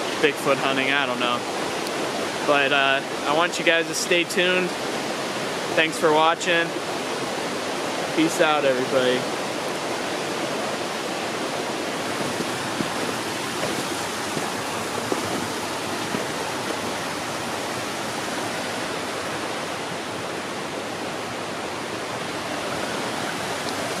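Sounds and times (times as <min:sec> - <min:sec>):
creek water rushing over cascade: 0:00.0 - 0:24.0.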